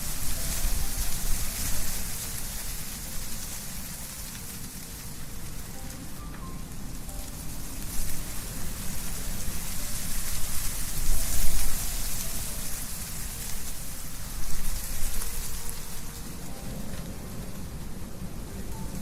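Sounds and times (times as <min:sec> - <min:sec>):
low rumble of gusts: 0:00.0 - 0:19.0
wind rustling tree leaves: 0:00.0 - 0:19.0.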